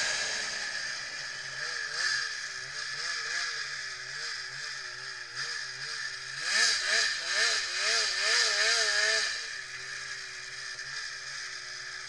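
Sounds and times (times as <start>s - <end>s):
snowmobile engine wavering: 0.0s - 12.0s.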